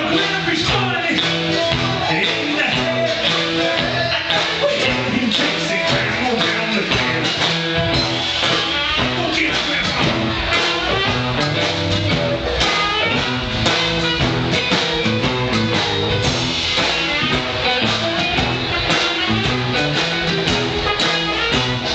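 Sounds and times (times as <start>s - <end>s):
live band playing: 0.0s - 21.9s.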